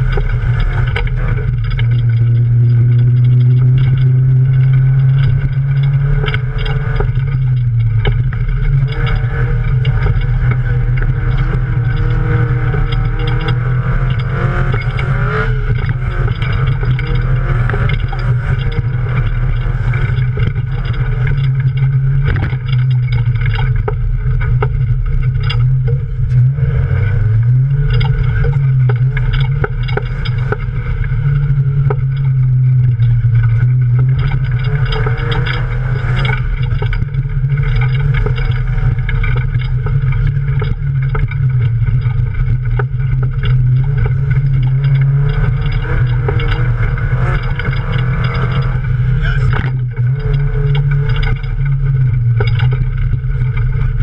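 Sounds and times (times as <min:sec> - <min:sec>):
mud and stones clattering on body: 0:00.0 - 0:54.0
race car engine under load: 0:00.0 - 0:54.0.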